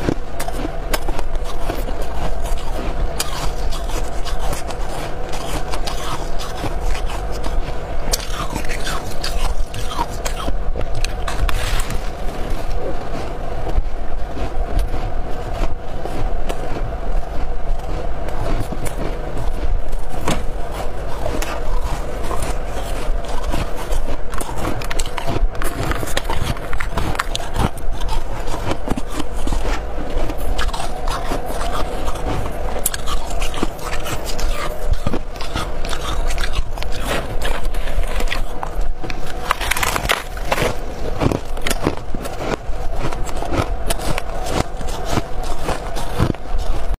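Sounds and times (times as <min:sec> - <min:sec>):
ice crunching in mouth: 0:00.0 - 0:46.9
steady low hum: 0:00.0 - 0:46.9.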